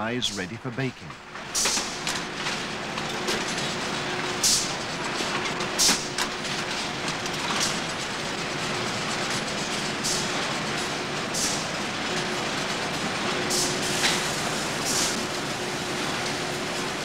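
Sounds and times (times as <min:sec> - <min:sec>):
conveyor mechanical rattle: 0:00.0 - 0:17.0.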